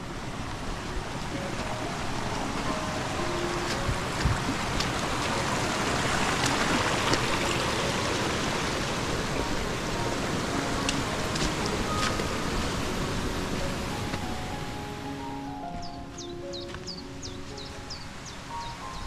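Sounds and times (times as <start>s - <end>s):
stream rushing over rocks: 0.0s - 15.5s.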